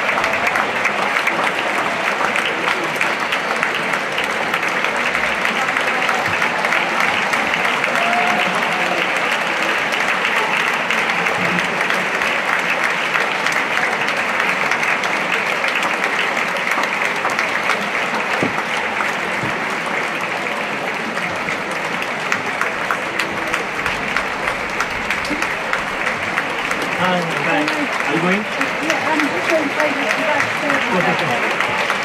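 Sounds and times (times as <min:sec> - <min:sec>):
audience applauding: 0:00.0 - 0:32.0.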